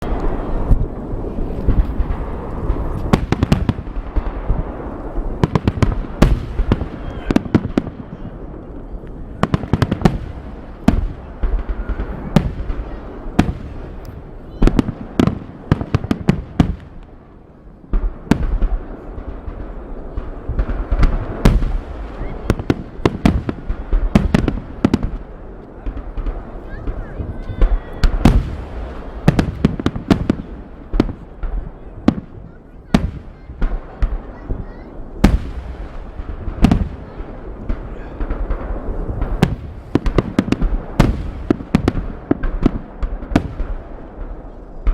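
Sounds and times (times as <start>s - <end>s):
fireworks bangs and cracks: 0.0s - 44.9s.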